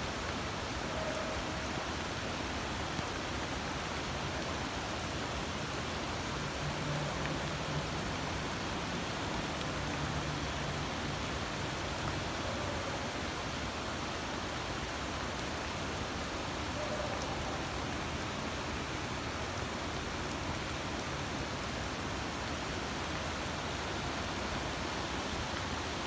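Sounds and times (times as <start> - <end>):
rain on running floodwater: 0.0 - 26.0.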